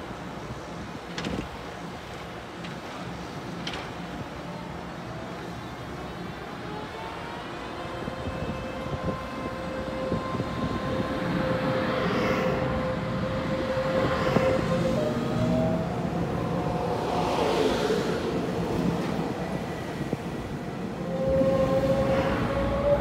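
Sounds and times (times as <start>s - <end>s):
wheels rumbling on rails: 0.0s - 23.0s.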